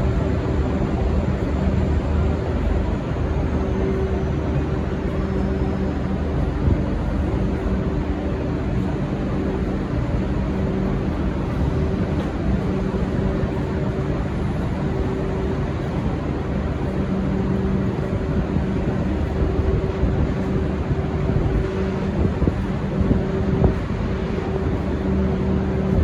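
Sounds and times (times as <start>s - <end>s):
diesel train rumbling: 0.0s - 26.0s.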